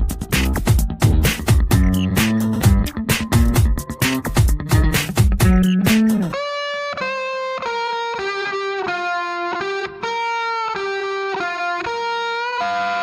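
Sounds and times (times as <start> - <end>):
electric guitar melody: 0.0 - 13.0.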